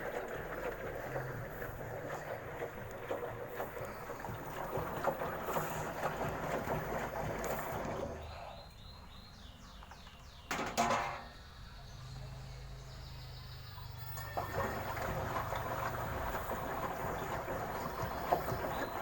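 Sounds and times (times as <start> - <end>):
washing machine water rushing: 0.0 - 9.2, 10.5 - 19.0
washing machine hum: 0.0 - 19.0.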